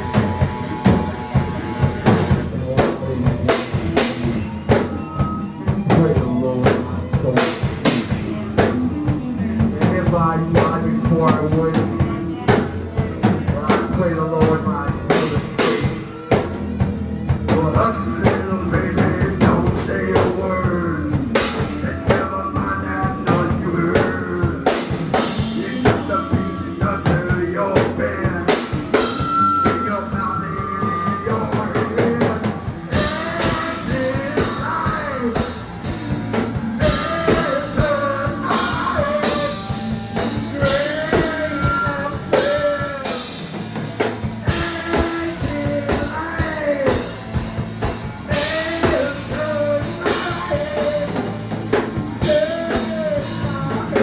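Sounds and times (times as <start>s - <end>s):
rock music with drums and vocals: 0.0s - 54.0s.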